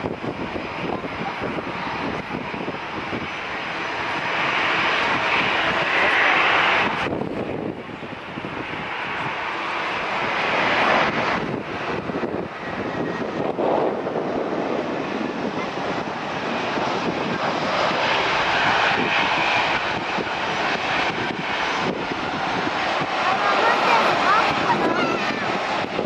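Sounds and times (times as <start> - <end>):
airliner engines rushing: 0.0 - 26.0.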